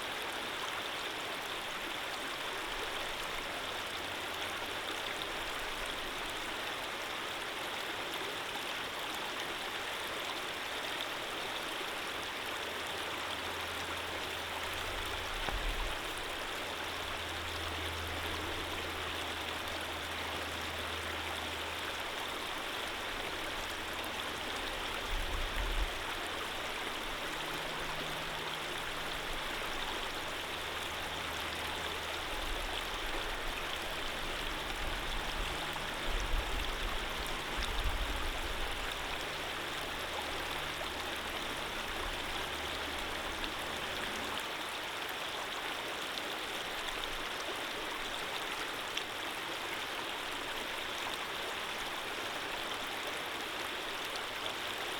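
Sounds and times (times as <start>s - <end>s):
stream of running water: 0.0s - 54.9s.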